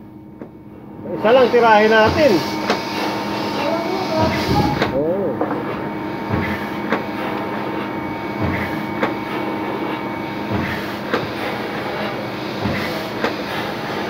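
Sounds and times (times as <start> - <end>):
machine motor hum: 0.0 - 14.0.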